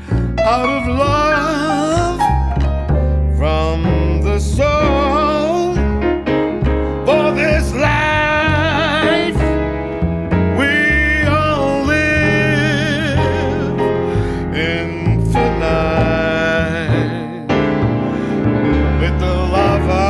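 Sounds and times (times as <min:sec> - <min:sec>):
man singing: 0:00.0 - 0:06.0, 0:07.0 - 0:09.6, 0:10.5 - 0:20.0
piano chords: 0:00.0 - 0:20.0
walking bass line: 0:00.0 - 0:20.0.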